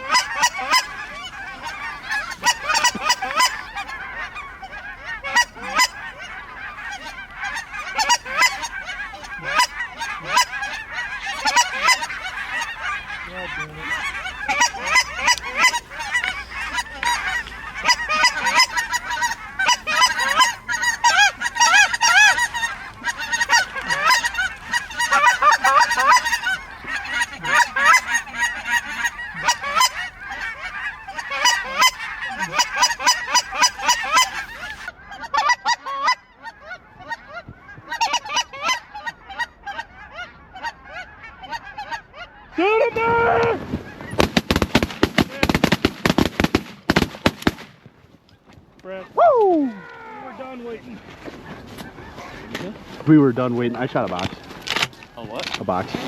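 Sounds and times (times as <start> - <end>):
flock of geese calling: 0.0 - 56.0.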